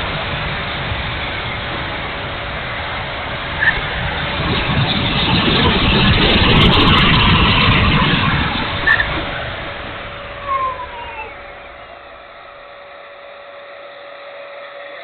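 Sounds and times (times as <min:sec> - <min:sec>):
model jet fan rushing past: 0:00.0 - 0:15.0.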